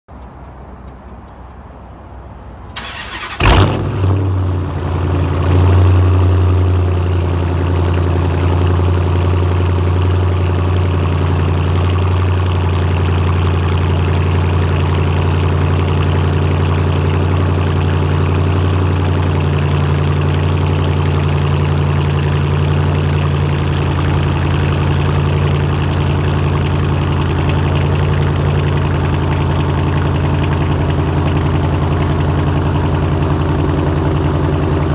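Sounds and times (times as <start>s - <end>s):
loud car engine idling: 2.8s - 34.9s.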